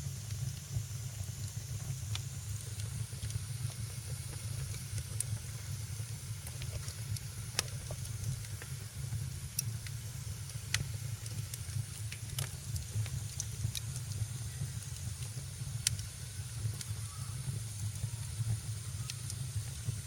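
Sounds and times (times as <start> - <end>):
wood fire crackling and popping: 0.1 - 20.0.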